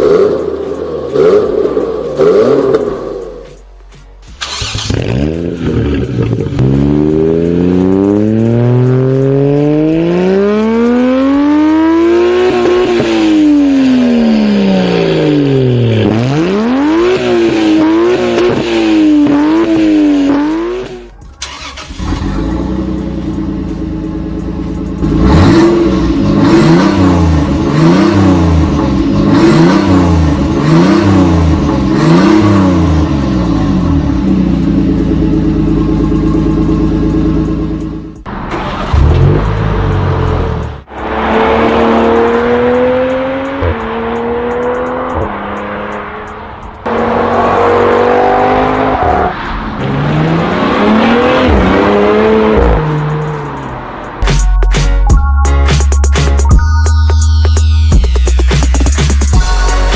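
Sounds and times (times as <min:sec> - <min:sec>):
car engine revving: 0:00.0 - 0:03.6, 0:04.3 - 0:54.9.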